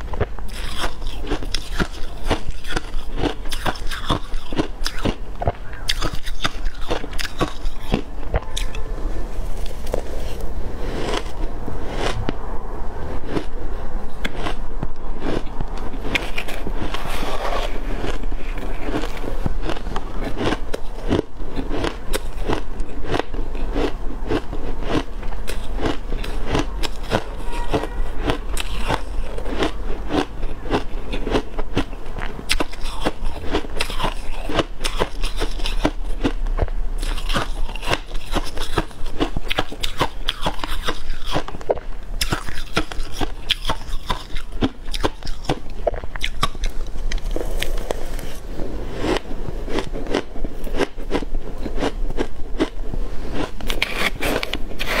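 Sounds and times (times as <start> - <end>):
person crunching shaved ice: 0.0 - 55.0.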